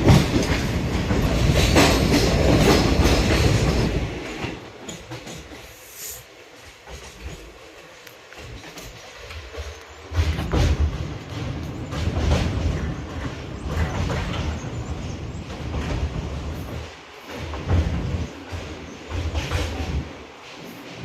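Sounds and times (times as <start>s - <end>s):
passenger train rumbling: 0.0s - 21.0s.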